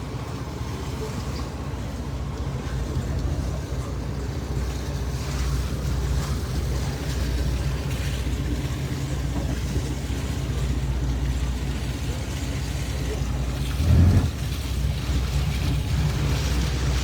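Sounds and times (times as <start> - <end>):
motorboat engines idling: 0.0 - 17.0.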